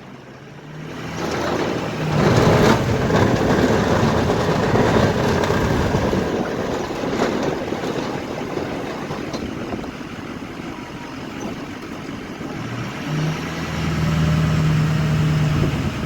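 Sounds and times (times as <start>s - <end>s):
snow plow truck rushing noise: 0.0s - 16.0s.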